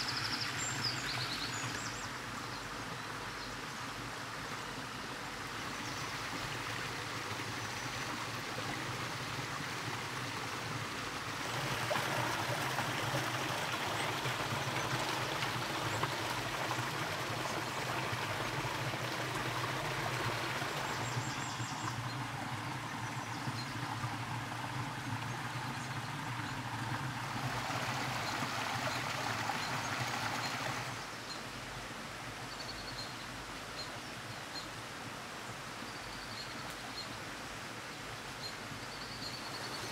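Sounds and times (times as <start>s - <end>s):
stream babbling and trickling: 0.0s - 39.9s.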